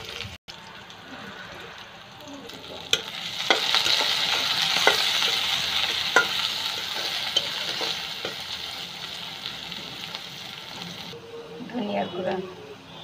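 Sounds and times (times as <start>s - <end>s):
onions sizzling in hot oil: 0.0s - 11.2s.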